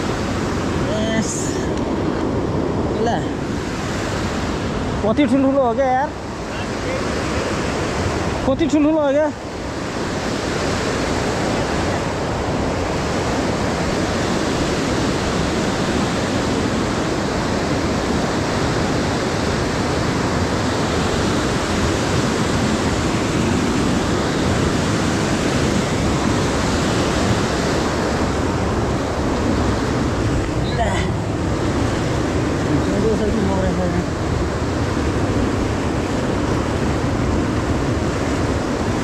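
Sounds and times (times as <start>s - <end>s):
river rapids rushing over rocks: 0.0s - 39.0s.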